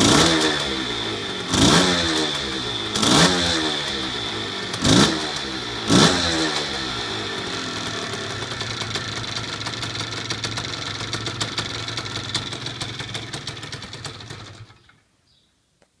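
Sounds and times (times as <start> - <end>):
two-stroke motorcycle engine idling: 0.0 - 15.0.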